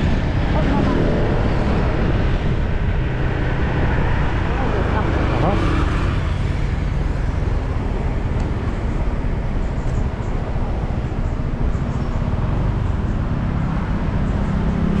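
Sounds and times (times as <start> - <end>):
road noise: 0.0 - 15.0
wind rumble on microphone: 0.0 - 15.0.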